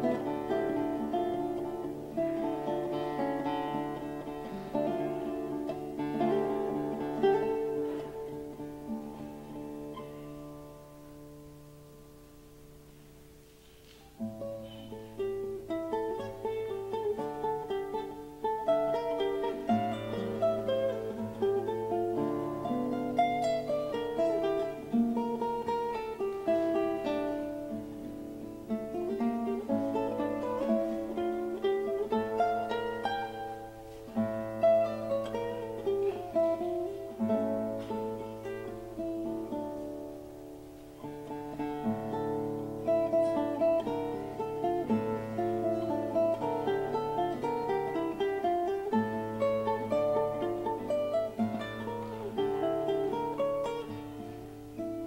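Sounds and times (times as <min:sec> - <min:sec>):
fingerpicked classical guitar: 0:00.0 - 0:55.0.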